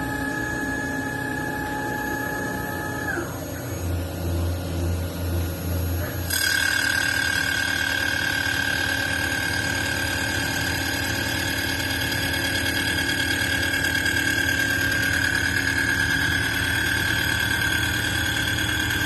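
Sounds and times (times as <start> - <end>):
machine whining and humming: 0.0 - 19.0.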